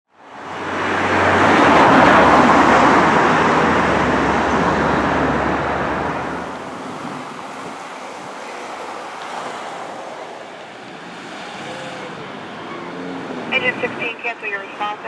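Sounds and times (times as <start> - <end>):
vehicle passing by: 0.3 - 14.1.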